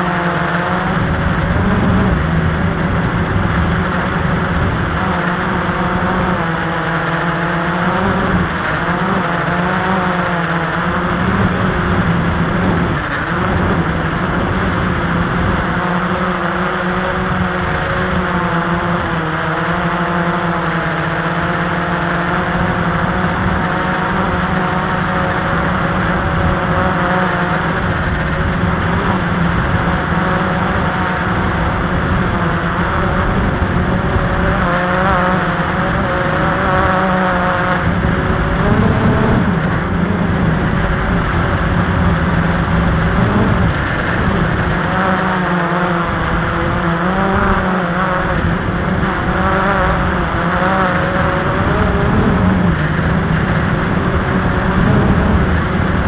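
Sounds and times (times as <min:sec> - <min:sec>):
constant rushing hiss: 0:00.0 - 0:56.0
drone motors humming: 0:00.0 - 0:56.0.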